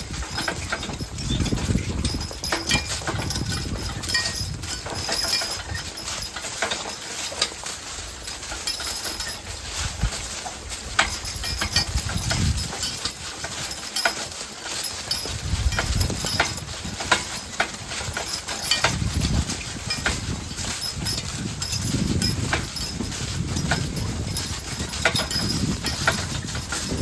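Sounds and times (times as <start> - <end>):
horse hooves clip-clopping: 0.0 - 27.0.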